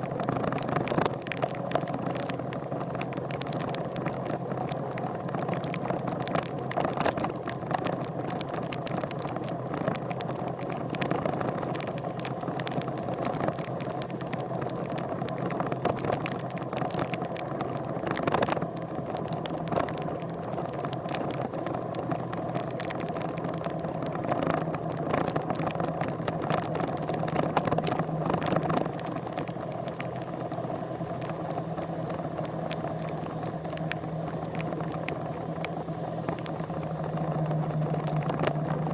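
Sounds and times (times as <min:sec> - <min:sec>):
engine running: 0:00.0 - 0:38.9
rapid rattling clicks: 0:00.0 - 0:38.9.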